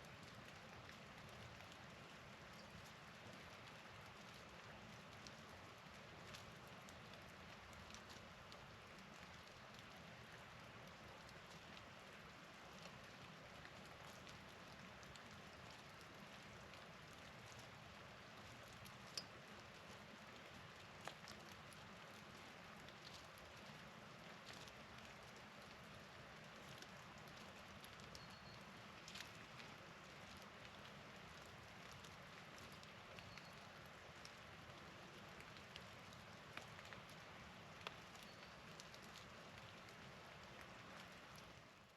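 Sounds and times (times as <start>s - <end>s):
faint outdoor hiss: 0.0s - 41.9s
soft ticks of falling precipitation: 0.0s - 41.9s.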